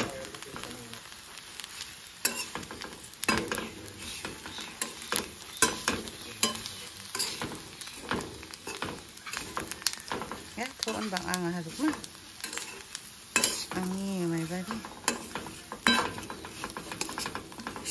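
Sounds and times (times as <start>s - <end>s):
frying hiss: 0.0s - 17.9s
metal spatula scraping metal pan: 2.2s - 17.9s.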